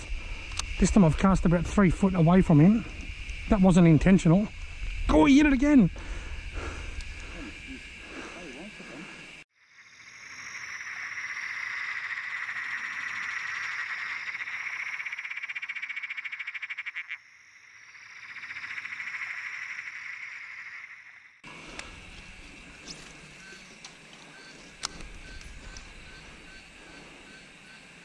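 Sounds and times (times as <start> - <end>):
animals calling in a pulsing trill: 0.7 - 28.0.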